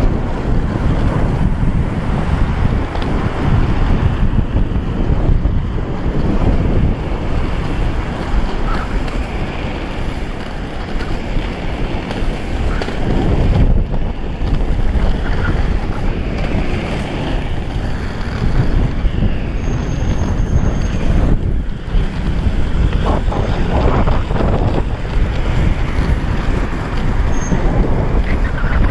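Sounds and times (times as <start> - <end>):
skateboard wheels rolling on asphalt: 0.0 - 28.9
wind buffeting microphone: 0.0 - 28.9.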